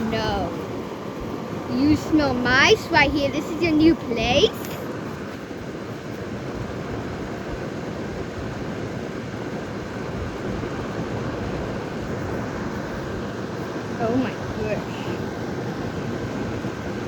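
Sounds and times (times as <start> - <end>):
low rushing background noise: 0.0 - 17.0.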